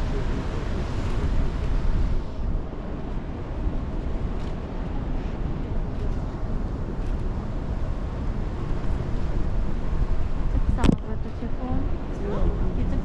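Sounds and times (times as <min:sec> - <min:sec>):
ship engine rumble: 0:00.0 - 0:13.0
wind: 0:00.0 - 0:13.0.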